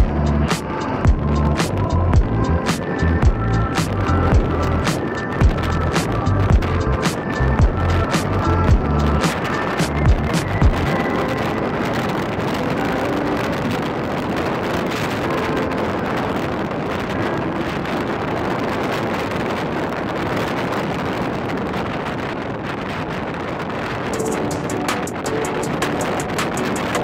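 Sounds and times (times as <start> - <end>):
strong wind rushing over microphone: 0.0 - 27.0.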